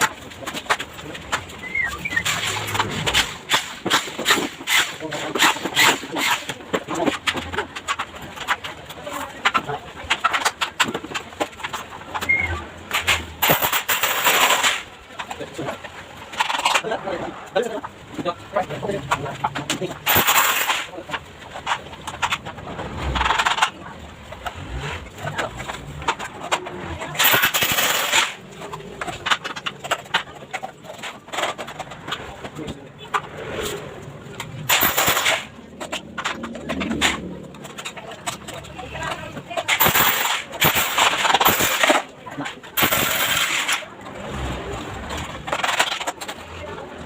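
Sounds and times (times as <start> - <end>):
metal parts clinking and rattling: 0.0 - 8.6, 10.1 - 15.7, 16.3 - 16.9, 18.9 - 23.8, 25.2 - 33.3, 34.1 - 46.5.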